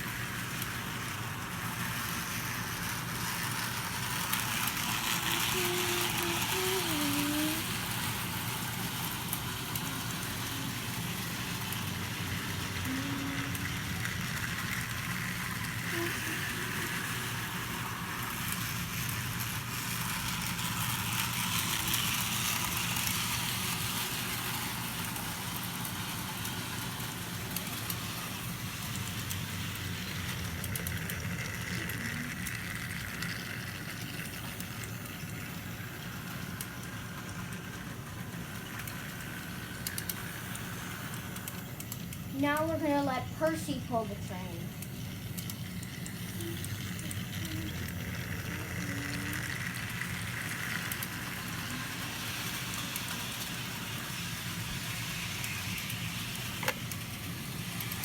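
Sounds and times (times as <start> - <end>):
model train motor whirring: 0.0 - 58.0
wheel and rail noise: 0.0 - 58.0.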